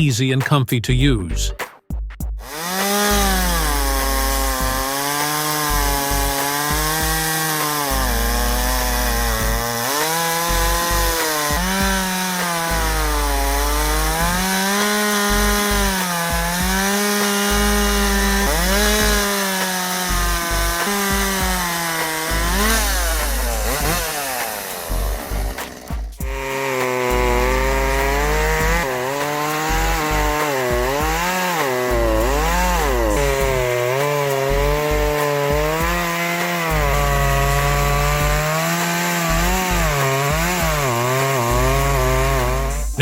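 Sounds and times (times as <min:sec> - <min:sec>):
chainsaw cutting wood: 0:02.4 - 0:43.0.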